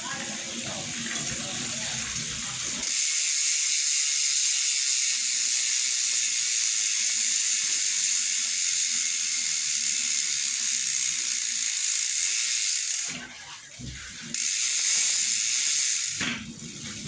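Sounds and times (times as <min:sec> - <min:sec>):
bicycle hub ratcheting clicks: 0:00.0 - 0:17.0.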